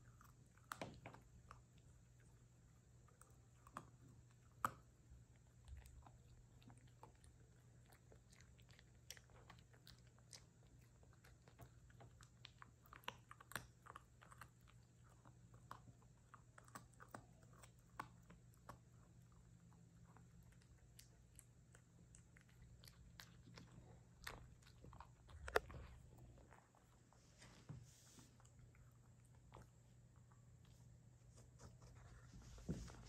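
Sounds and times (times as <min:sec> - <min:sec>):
puppy chewing a treat: 0:00.0 - 0:27.5, 0:28.1 - 0:33.0.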